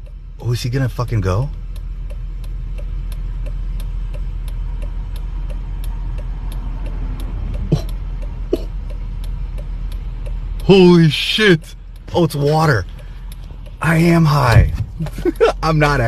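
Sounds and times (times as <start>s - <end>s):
car rumble from inside cabin: 0.0s - 16.0s
faint regular ticking: 0.0s - 16.0s.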